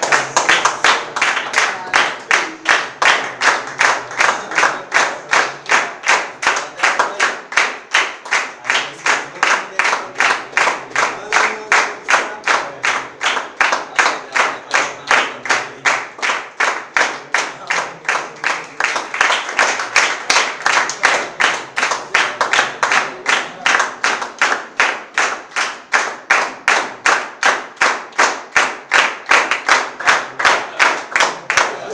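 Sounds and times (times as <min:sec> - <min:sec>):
audience clapping in unison: 0:00.0 - 0:31.9.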